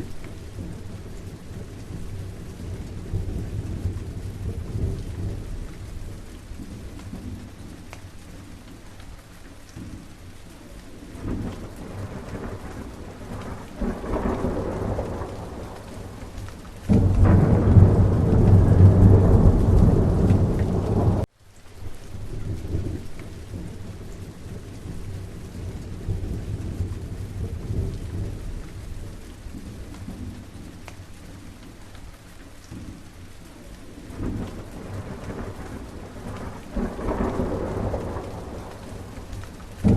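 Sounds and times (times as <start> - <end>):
thunder rumbling: 0.0 - 7.8, 11.1 - 21.3, 22.1 - 30.8, 33.9 - 39.9
steady rain: 0.0 - 39.9.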